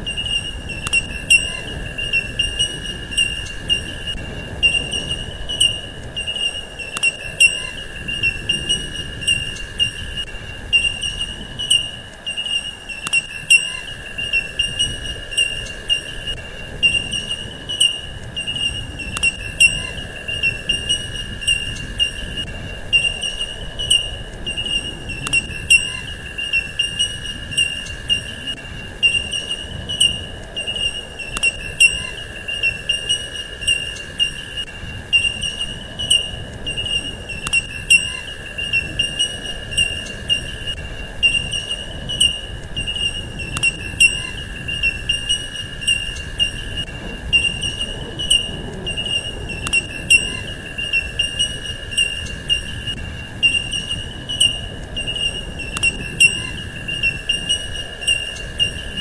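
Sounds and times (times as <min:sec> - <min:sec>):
cricket-like insect trill: 0:00.0 - 0:59.0.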